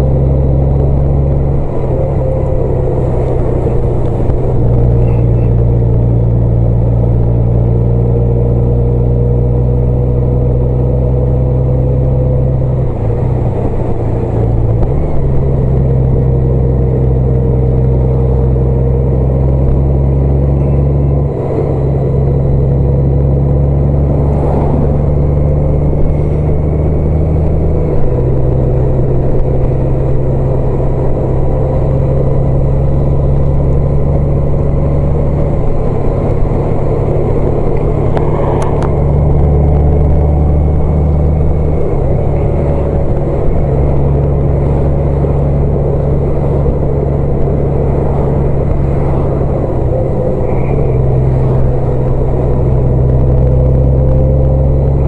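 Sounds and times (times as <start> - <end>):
car engine running: 0.0 - 55.0
road noise: 0.0 - 55.0.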